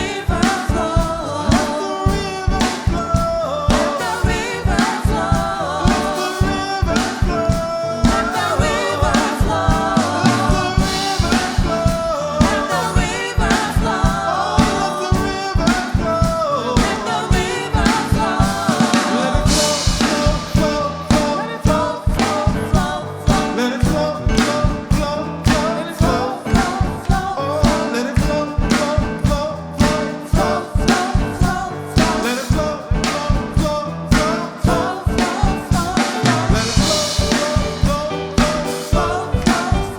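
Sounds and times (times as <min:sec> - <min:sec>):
drum kit beat: 0:00.0 - 0:39.9
gospel band playing: 0:00.0 - 0:39.9
people singing: 0:00.0 - 0:39.9.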